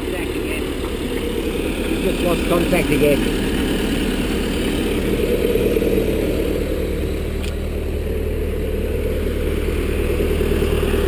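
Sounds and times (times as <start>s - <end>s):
stump grinder engine running: 0.0s - 11.0s.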